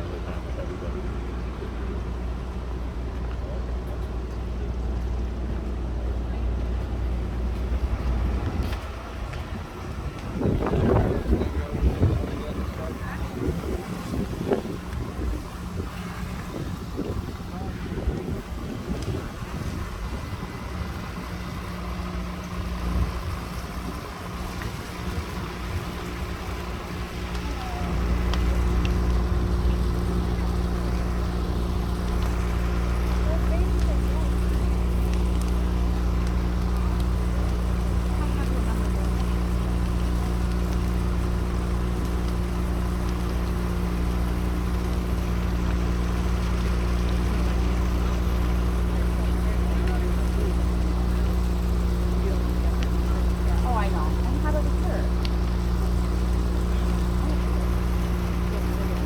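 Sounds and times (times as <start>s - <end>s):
engine running steadily: 0.0s - 59.0s
low rumble: 0.0s - 59.0s.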